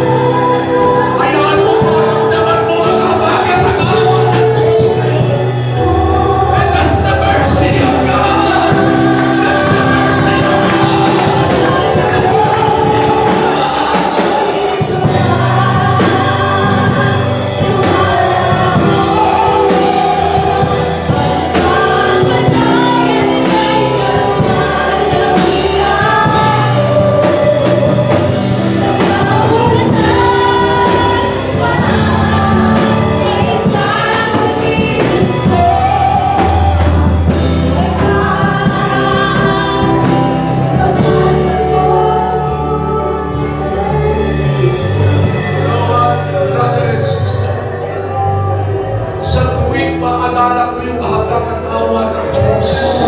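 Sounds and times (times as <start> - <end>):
congregation singing gospel: 0.0 - 53.0
instrumental accompaniment: 0.0 - 53.0.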